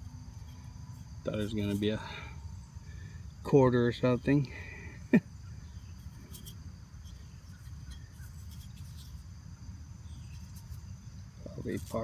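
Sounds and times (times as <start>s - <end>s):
insects chirping in grass: 0.0s - 12.0s.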